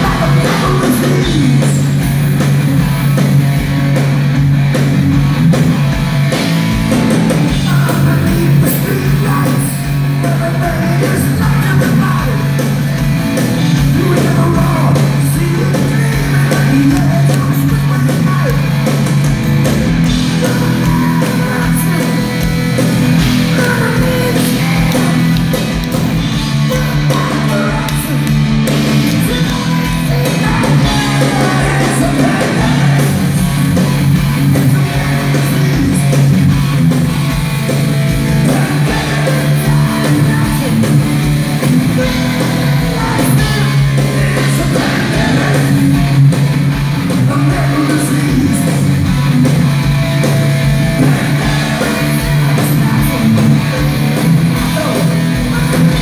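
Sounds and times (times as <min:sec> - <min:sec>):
man singing lead vocals: 0:00.0 - 0:03.2, 0:07.1 - 0:12.7, 0:13.6 - 0:18.9, 0:20.1 - 0:36.7, 0:38.1 - 0:46.4, 0:47.0 - 0:50.0, 0:50.9 - 0:56.0
heavy metal band playing live: 0:00.0 - 0:56.0.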